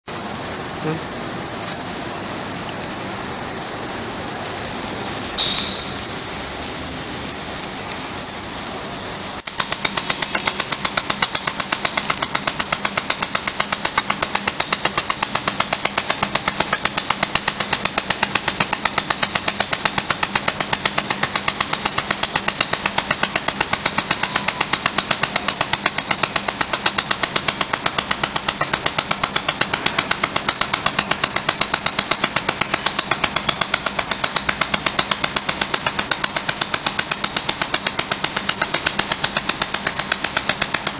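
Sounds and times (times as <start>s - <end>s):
machine steady hiss: 0.1s - 40.9s
laser welder sharp snaps: 1.6s - 2.9s, 9.4s - 40.9s.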